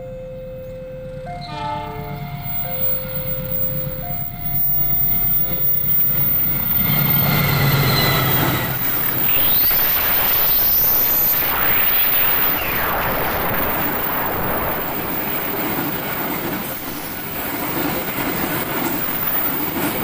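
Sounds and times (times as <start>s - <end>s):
two-tone warning signal: 0.0s - 17.3s
train wheel noise: 0.7s - 20.0s.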